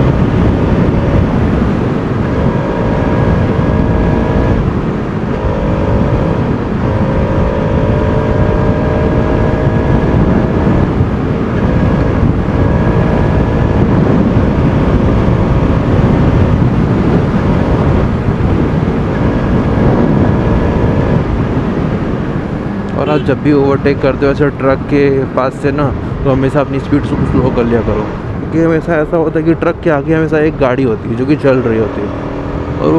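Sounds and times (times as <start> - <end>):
heavy rushing noise: 0.0 - 32.9
motorcycle engine cruising: 0.0 - 32.9.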